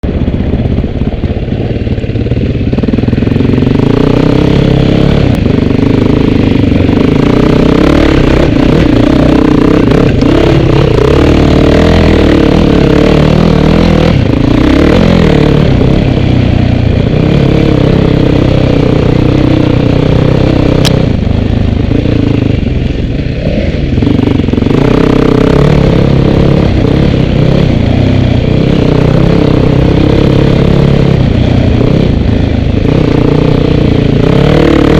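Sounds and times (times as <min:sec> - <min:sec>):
off-road vehicle engine revving: 0:02.7 - 0:34.9.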